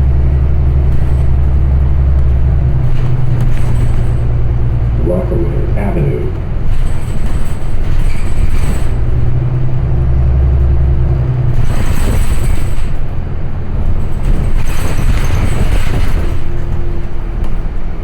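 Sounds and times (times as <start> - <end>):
bus engine drone: 0.0 - 18.0
road noise: 0.0 - 18.0.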